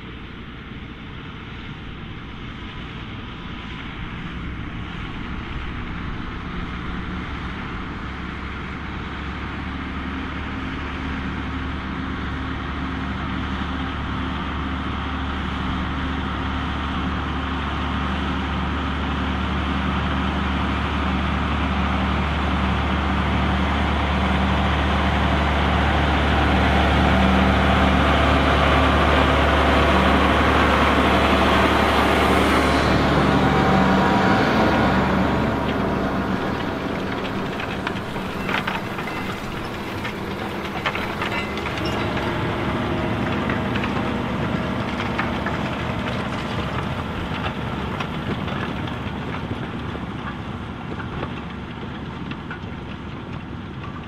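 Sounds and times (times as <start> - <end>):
tractor diesel engines under load: 0.0 - 54.0.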